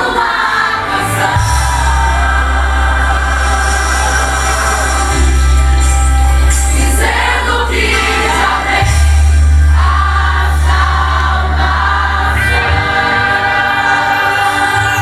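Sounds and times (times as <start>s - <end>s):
band playing: 0.0s - 15.0s
group singing gospel: 0.0s - 15.0s
loud bass line: 1.1s - 15.0s.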